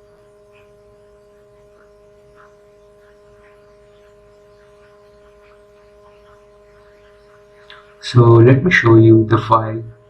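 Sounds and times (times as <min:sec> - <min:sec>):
electrical hum: 0:00.0 - 0:10.0
faint irregular ticks: 0:00.0 - 0:10.0.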